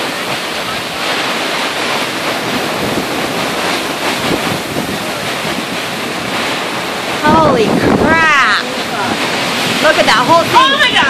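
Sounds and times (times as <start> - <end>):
flood runoff pouring off rock: 0.0 - 11.0
heavy rain: 0.0 - 11.0
wind buffeting microphone: 0.0 - 11.0.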